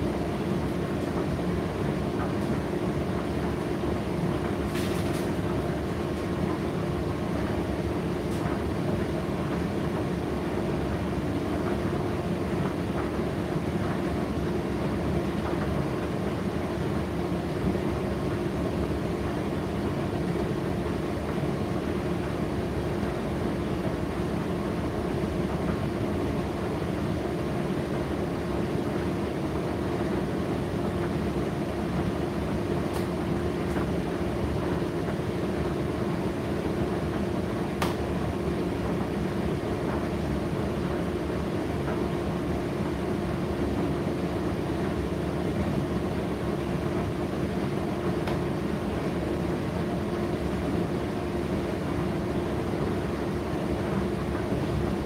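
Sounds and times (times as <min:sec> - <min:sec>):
tumble dryer running: 0:00.0 - 0:55.0.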